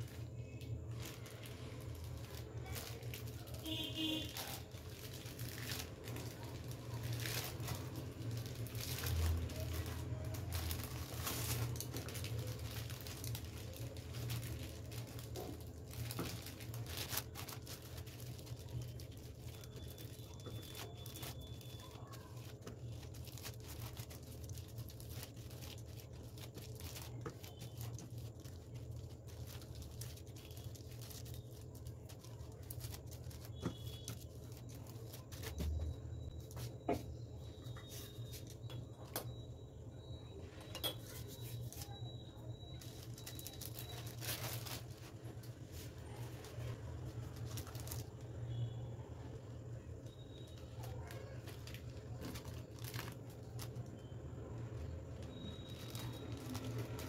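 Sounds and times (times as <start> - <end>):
plastic sheet crinkling: 0.0 - 39.5, 40.5 - 57.0.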